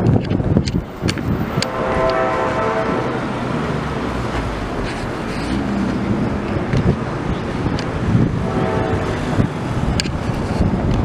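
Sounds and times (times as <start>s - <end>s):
engine hum: 0.0s - 11.0s
passing vehicle rumble: 0.0s - 11.0s.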